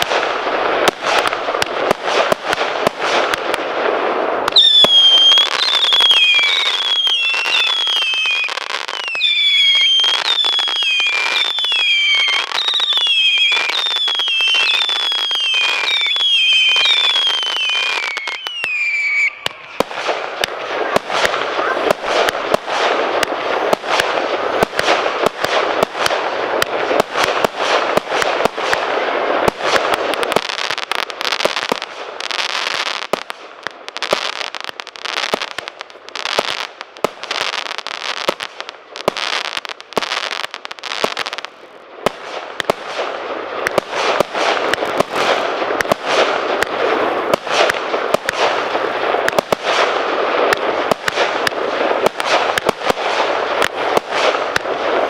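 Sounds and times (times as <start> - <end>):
firework bangs and cracks: 0.0 - 55.0
firework crackling hiss: 0.0 - 55.0.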